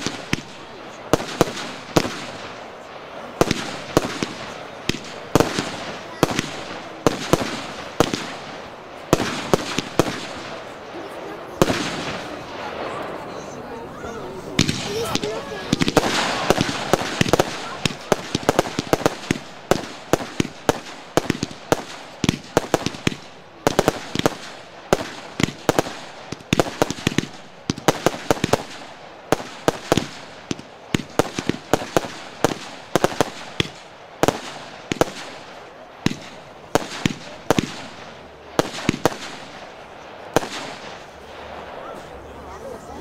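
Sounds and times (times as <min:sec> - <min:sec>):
fireworks bangs and pops: 0:00.0 - 0:13.3, 0:14.4 - 0:43.0.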